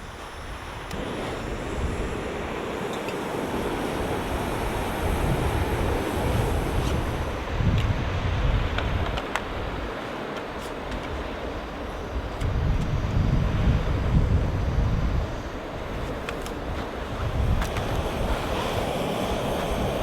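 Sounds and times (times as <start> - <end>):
wind buffeting microphone: 0.0 - 10.0, 10.6 - 20.0
blizzard wind blowing hard: 0.0 - 20.0.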